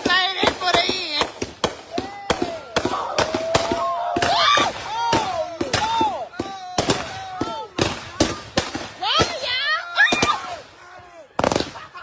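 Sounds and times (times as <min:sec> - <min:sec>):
firecrackers banging: 0:00.0 - 0:10.8, 0:11.4 - 0:12.0
people shouting: 0:01.9 - 0:12.0.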